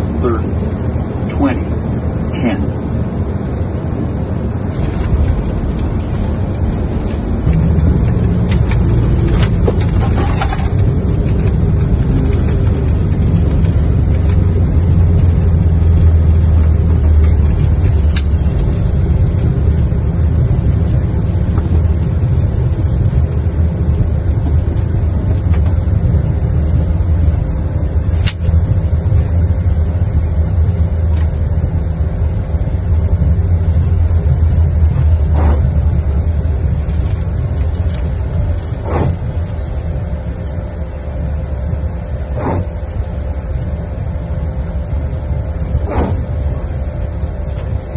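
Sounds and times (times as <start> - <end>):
aircraft rumbling along runway: 0.0 - 47.9.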